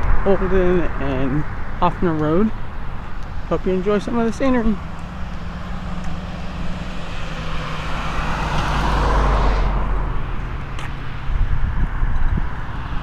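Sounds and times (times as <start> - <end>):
low traffic rumble: 0.0 - 13.0
vehicle passing by: 0.5 - 13.0.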